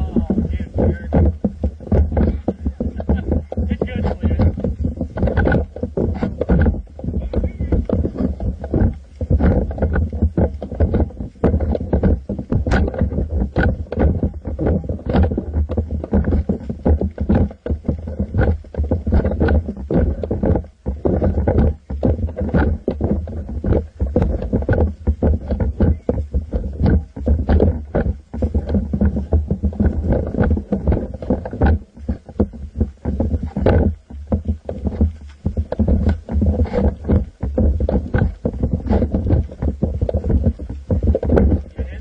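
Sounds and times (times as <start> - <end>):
low rumble: 0.0 - 42.0
camera handling knocks and bumps: 0.8 - 41.6.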